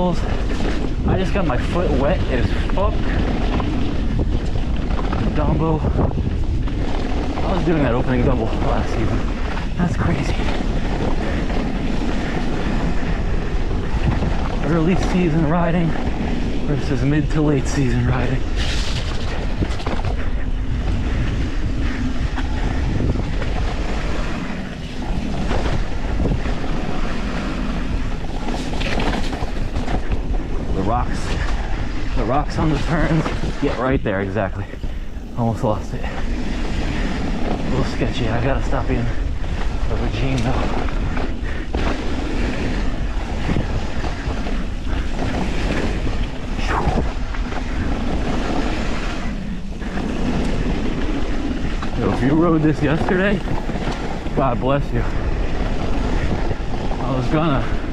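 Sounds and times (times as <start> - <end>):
tyres rolling over dirt and rock: 0.0 - 57.9
wind buffeting microphone: 0.0 - 57.9.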